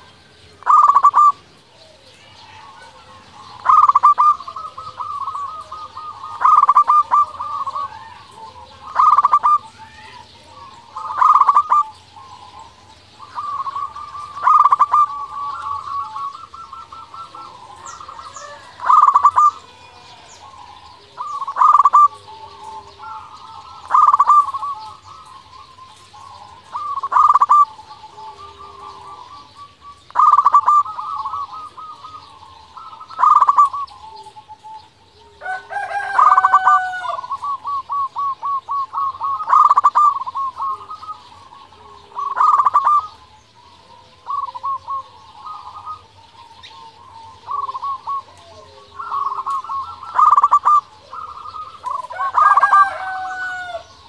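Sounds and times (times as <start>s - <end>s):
dove cooing: 0.0s - 54.0s
small birds chirping: 0.0s - 54.0s.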